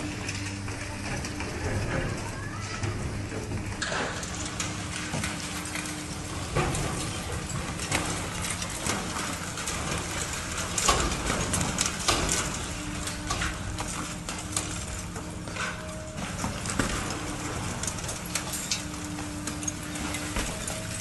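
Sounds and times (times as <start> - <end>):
steady engine hum: 0.0 - 21.0
concrete cracking and rubble falling: 3.7 - 21.0.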